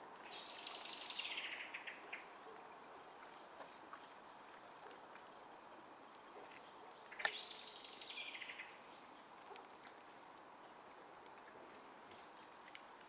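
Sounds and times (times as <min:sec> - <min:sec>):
faint forest background hiss: 0:00.0 - 0:13.0
songbird singing: 0:00.0 - 0:13.0.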